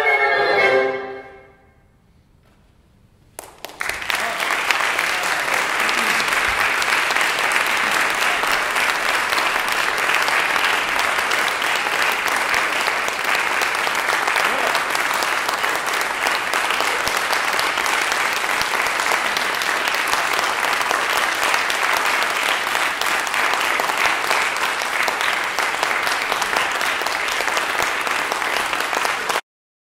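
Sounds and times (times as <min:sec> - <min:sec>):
audience applauding: 0:03.4 - 0:29.4.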